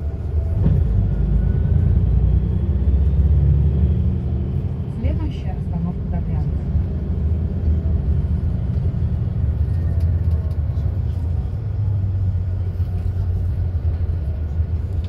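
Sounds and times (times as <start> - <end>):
bus engine and tyre rumble: 0.0 - 15.0.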